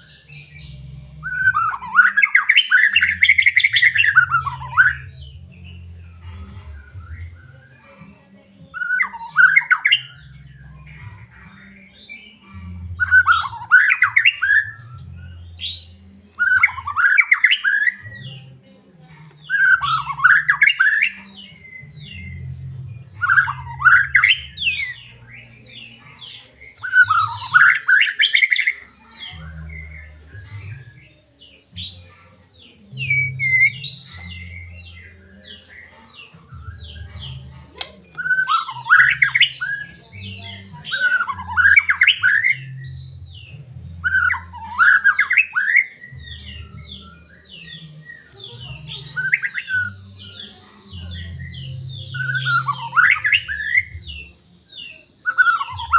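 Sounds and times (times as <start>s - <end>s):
bird singing sweeping phrases: 0.0s - 55.9s
soft bird twittering: 0.0s - 55.9s.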